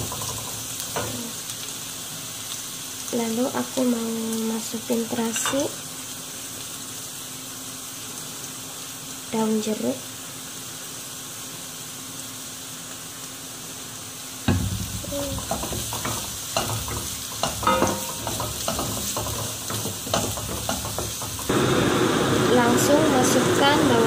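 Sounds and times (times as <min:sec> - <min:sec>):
aromatics sizzling in a wok: 0:00.0 - 0:24.0.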